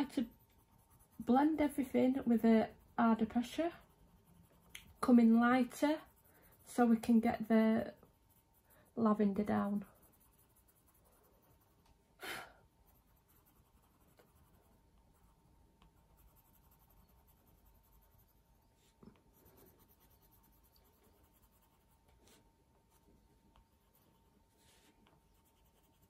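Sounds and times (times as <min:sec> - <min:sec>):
pencil shading on paper: 0:00.0 - 0:11.9, 0:12.8 - 0:26.0.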